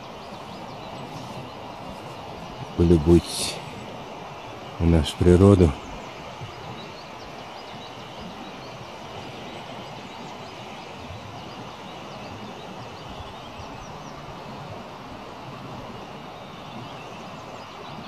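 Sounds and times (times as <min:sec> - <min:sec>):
river rushing: 0:00.0 - 0:18.0.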